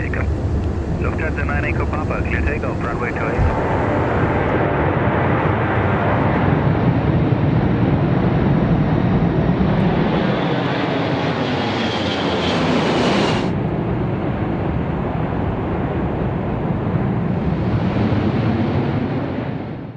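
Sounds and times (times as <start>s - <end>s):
cockpit engine and airflow rush: 0.0s - 19.9s.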